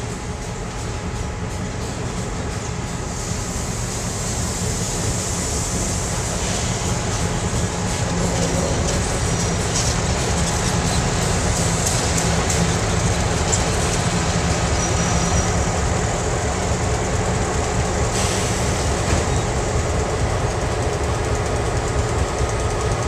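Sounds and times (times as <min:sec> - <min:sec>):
continuous rumble: 0:00.0 - 0:23.0
diesel locomotive engine drone: 0:00.0 - 0:23.0.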